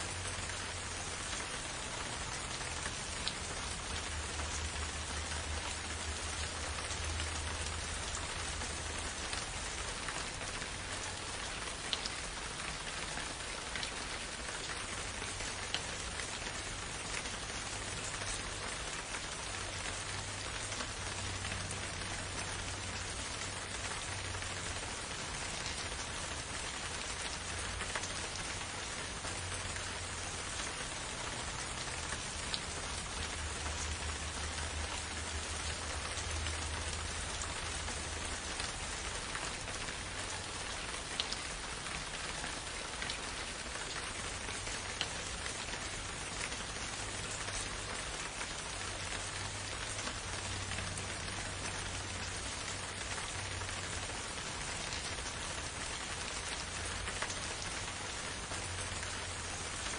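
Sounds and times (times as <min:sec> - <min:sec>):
gentle rain falling: 0:00.0 - 0:59.9
raindrop ticks: 0:00.1 - 0:59.9.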